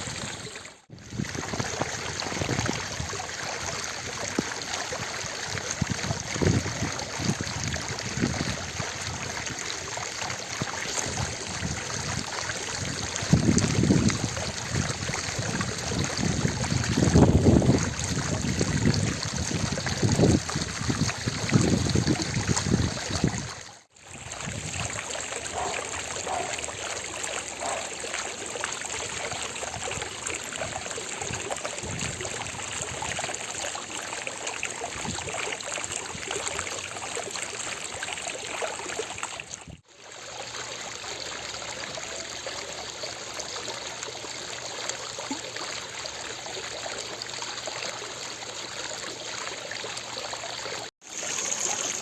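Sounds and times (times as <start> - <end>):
fountain water splashing: 0.0 - 52.0.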